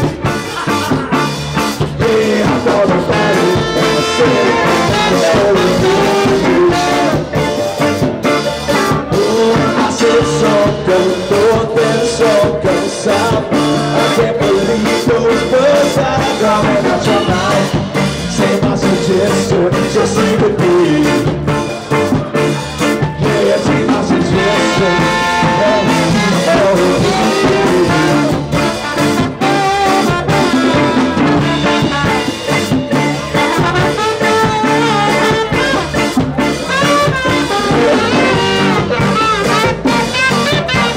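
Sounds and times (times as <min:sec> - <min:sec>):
electric guitar: 0:00.0 - 0:40.9
live band playing: 0:00.0 - 0:40.9
person singing: 0:00.0 - 0:40.9.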